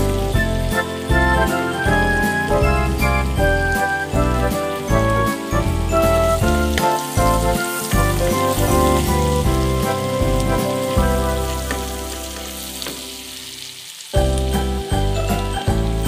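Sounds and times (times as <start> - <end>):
background music: 0.0 - 16.0
food frying in oil: 0.0 - 16.0.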